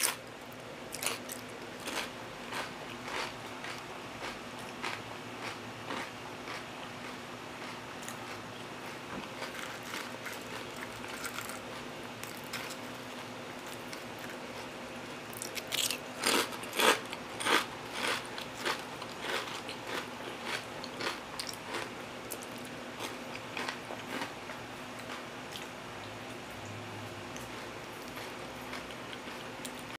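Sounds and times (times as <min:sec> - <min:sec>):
chewing crunchy chips: 0:00.0 - 0:26.4, 0:27.2 - 0:29.9.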